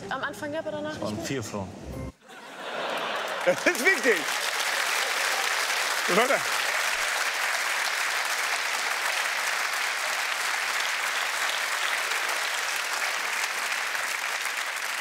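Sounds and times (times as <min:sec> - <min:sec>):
audience applauding: 0:02.6 - 0:15.0.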